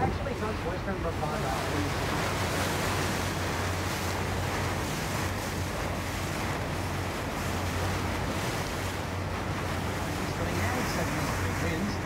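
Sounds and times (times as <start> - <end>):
low boat engine hum: 0.0 - 12.0
water splashing along hull: 0.0 - 12.0
wind buffeting microphone: 0.0 - 12.0.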